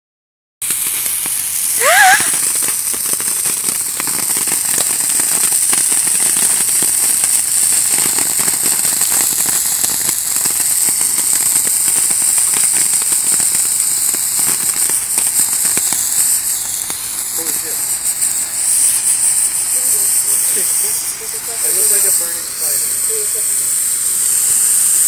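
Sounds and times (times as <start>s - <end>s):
sparkler hissing and crackling: 0.6s - 25.0s.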